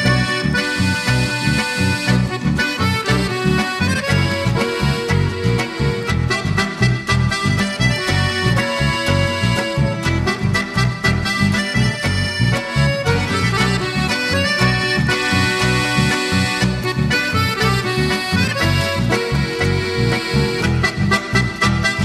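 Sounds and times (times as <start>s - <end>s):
accordion music: 0.0s - 22.0s
steady bass beat: 0.0s - 22.0s.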